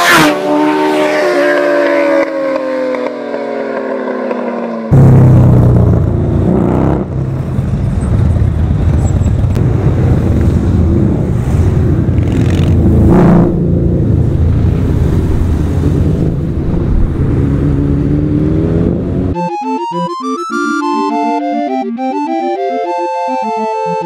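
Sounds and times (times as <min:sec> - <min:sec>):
motorcycle engine revving: 0:00.0 - 0:19.4
motorcycle engines rumbling: 0:00.0 - 0:19.4.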